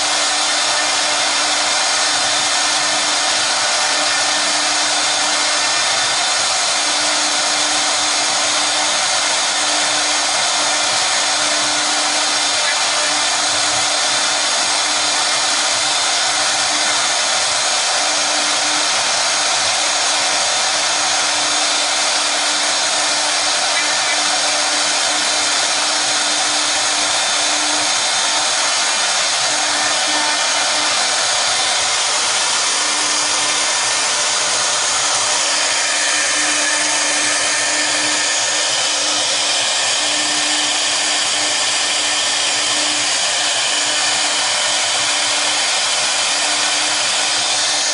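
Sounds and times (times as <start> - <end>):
router spindles whining: 0.0 - 47.9.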